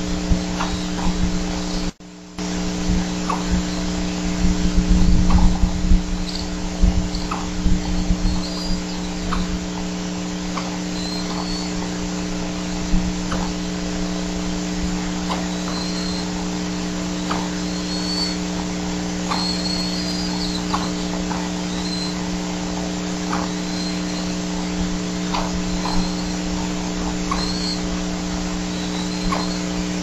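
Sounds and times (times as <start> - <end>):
electrical hum and hiss: 0.0 - 30.0
faint high chirps: 3.2 - 14.2, 15.2 - 30.0.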